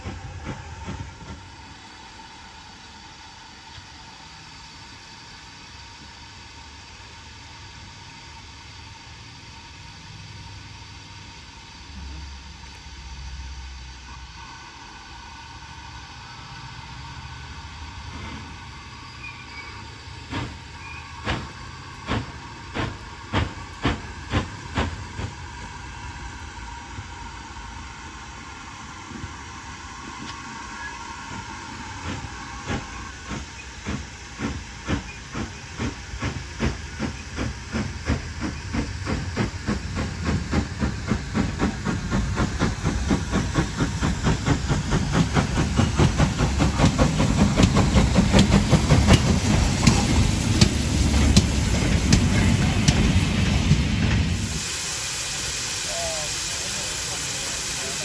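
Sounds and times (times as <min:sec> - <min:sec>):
rumble of train wagons passing: 0:00.0 - 0:58.0
steam locomotive exhaust chuffing: 0:00.0 - 0:58.0.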